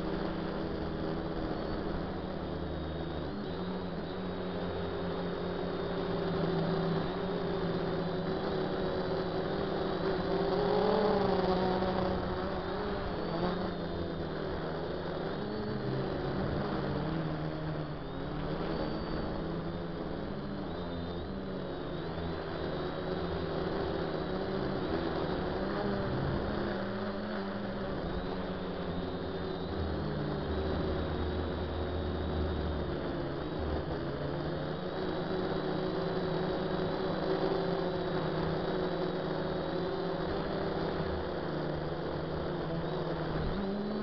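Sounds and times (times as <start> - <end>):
drone propellers humming: 0.0 - 44.0.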